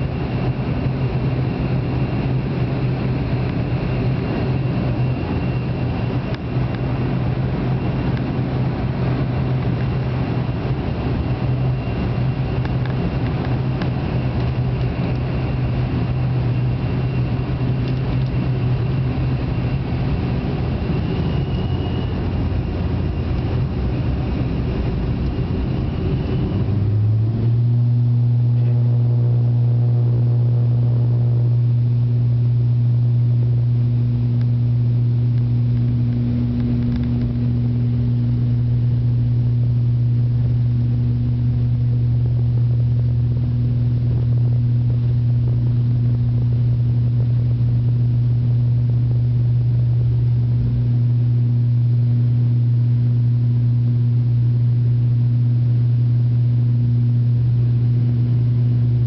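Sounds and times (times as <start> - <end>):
low rumble: 0.0 - 59.0
propeller drone in cabin: 0.0 - 59.0.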